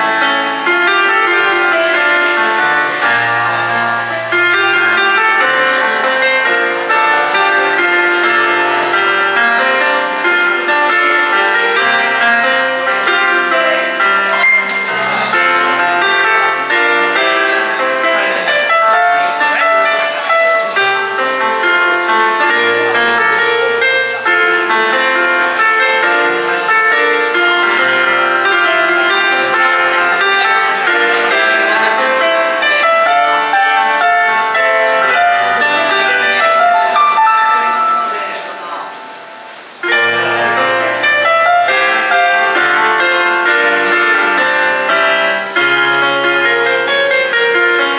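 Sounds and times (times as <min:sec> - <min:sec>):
electronic keyboard melody: 0:00.0 - 0:47.9.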